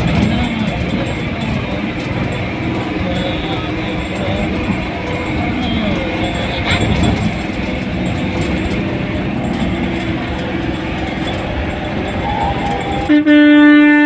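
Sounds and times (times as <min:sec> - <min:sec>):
bus engine and road noise: 0:00.0 - 0:14.0
bus horn steady tone: 0:00.0 - 0:14.0.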